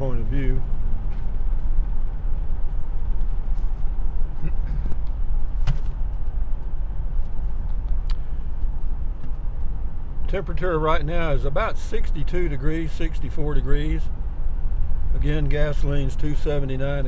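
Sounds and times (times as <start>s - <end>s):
vehicle driving on road: 0.0s - 17.0s.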